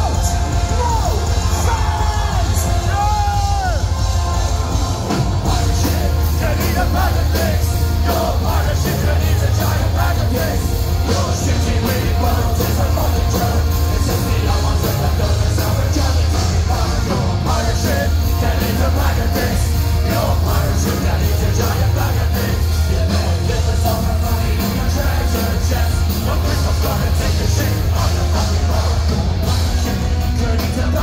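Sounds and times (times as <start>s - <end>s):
crowd yelling: 0.0s - 31.0s
heavy metal band playing live: 0.0s - 31.0s
pounding drum beat: 0.0s - 31.0s.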